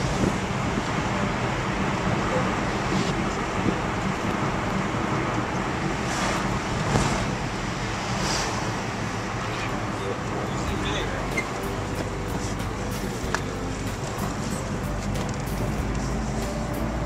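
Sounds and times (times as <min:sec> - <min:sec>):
vehicle engine and tyre noise: 0:00.0 - 0:17.0.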